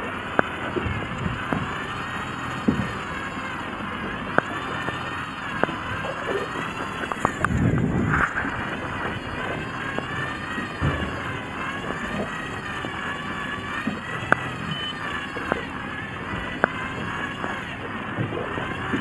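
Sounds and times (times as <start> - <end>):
motor whine: 0.0 - 19.0
water noise: 0.0 - 19.0
wind: 0.0 - 19.0.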